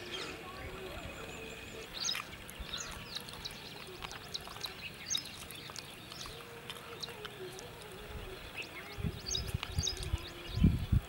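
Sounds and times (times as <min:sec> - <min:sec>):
faint background noise: 0:00.0 - 0:11.0
small birds chirping: 0:00.0 - 0:11.0.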